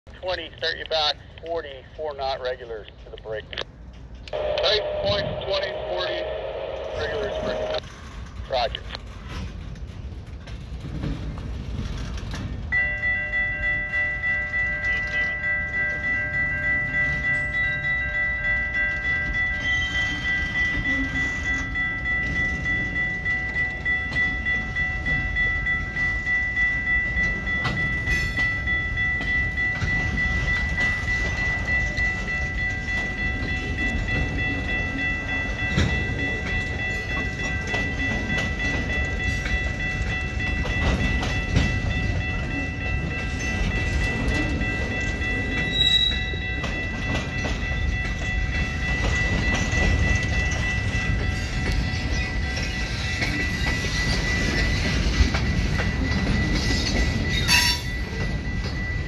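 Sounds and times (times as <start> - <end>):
freight train wheels clattering: 0.1 - 59.0
level crossing bell ringing: 4.3 - 7.8, 12.7 - 59.0.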